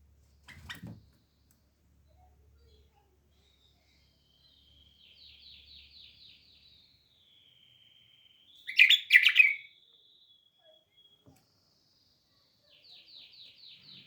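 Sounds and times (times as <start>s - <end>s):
songbird singing: 0.4s - 14.0s.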